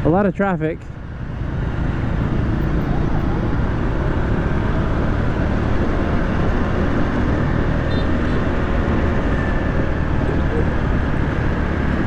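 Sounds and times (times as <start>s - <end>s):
city traffic: 0.0s - 12.0s
motor scooter engine and road noise: 0.0s - 12.0s.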